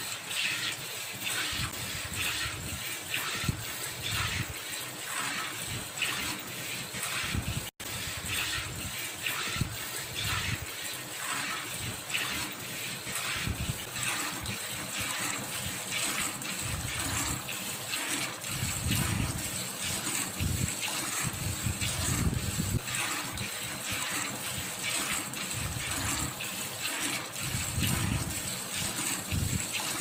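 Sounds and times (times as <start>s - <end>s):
milk squirting into metal pail: 0.0s - 30.0s.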